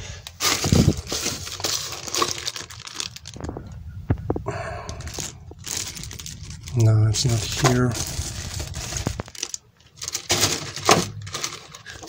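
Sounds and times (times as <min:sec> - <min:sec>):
plastic bags and paper rustling: 0:00.0 - 0:12.0.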